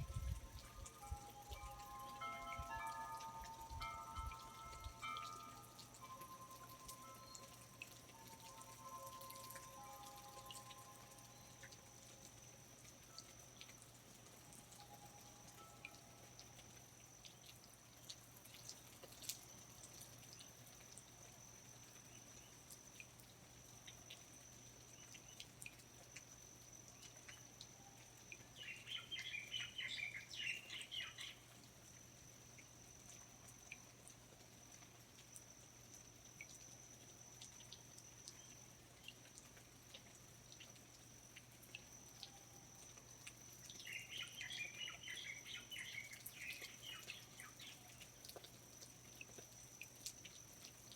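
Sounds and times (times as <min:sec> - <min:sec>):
water drips: 0:00.0 - 0:50.9.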